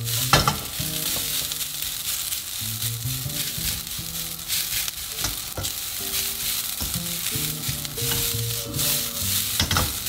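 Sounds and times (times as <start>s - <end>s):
rice sizzling in a wok: 0.0s - 10.0s
spatula scraping and knocking wok: 0.0s - 10.0s.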